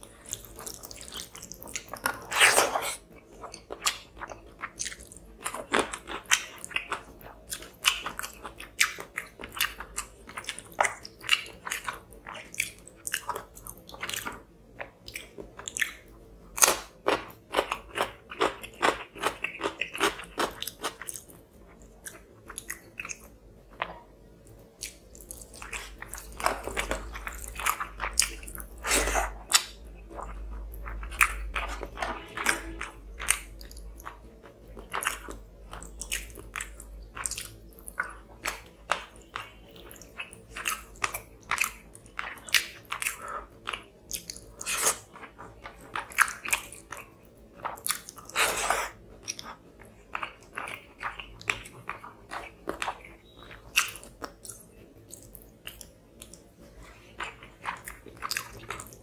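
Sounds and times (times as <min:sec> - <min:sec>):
wet chewing with clicks and smacks: 0:00.0 - 0:59.0.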